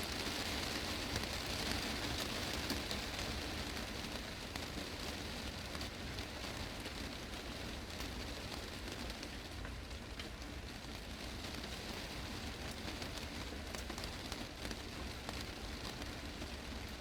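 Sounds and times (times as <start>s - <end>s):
heavy rain on glass roof: 0.0s - 17.0s.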